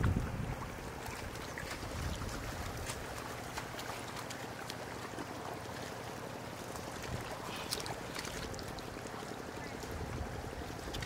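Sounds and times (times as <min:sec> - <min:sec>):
shallow water sloshing and trickling: 0:00.0 - 0:11.0
fish splashing: 0:00.7 - 0:10.0.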